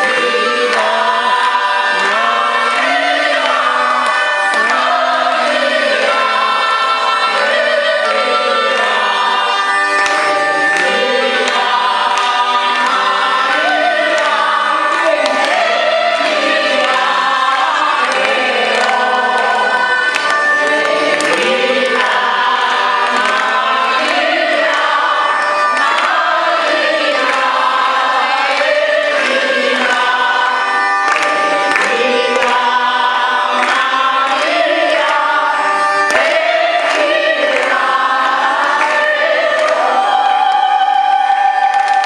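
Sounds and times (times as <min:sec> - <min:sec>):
congregation clapping along: 0:00.0 - 0:42.0
group of voices singing: 0:00.0 - 0:42.0.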